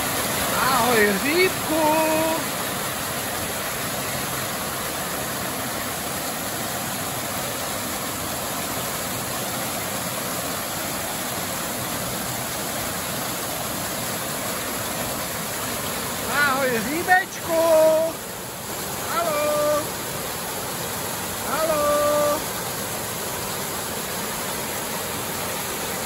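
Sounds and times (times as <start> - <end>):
fountain water splashing into pool: 0.0 - 26.0.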